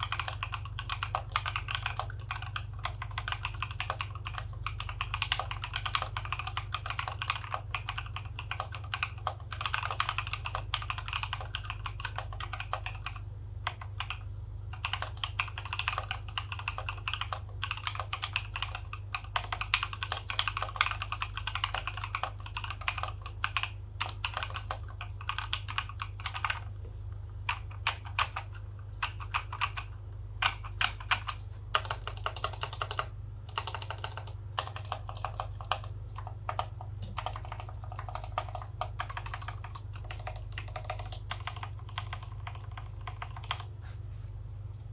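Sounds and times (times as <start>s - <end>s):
mechanical keyboard typing: 0.0s - 26.7s, 27.4s - 43.7s.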